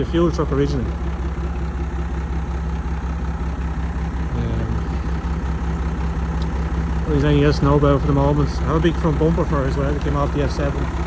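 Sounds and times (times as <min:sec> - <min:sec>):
heavy diesel engine idling: 0:00.0 - 0:11.0.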